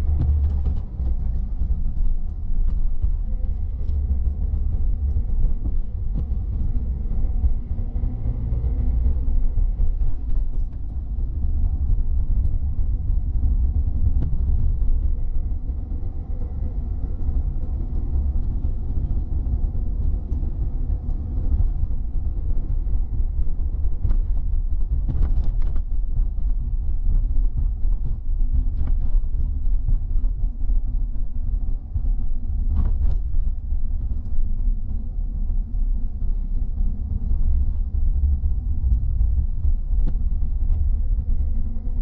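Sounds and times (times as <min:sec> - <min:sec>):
car cabin road and engine rumble: 0:00.0 - 0:42.0.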